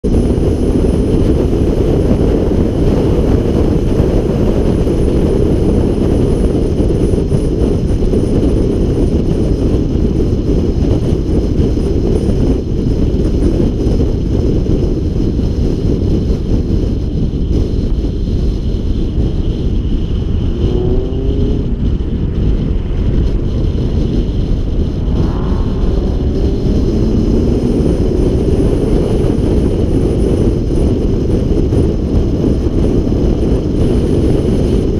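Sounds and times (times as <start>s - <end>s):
car engine running: 0.0s - 34.9s
wind and road noise: 0.0s - 34.9s.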